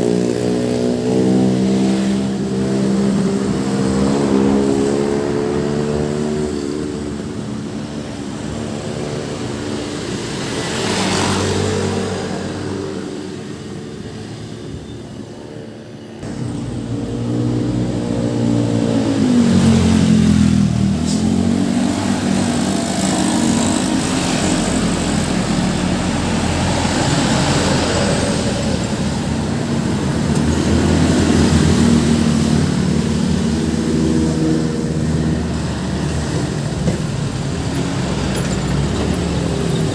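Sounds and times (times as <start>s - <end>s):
passing vehicle engines: 0.0s - 39.9s.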